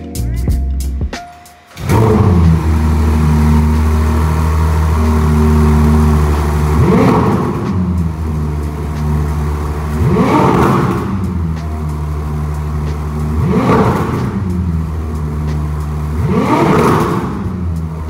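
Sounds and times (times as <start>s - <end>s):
car engine idling: 1.6s - 18.0s
engine throttle blips: 1.7s - 18.0s.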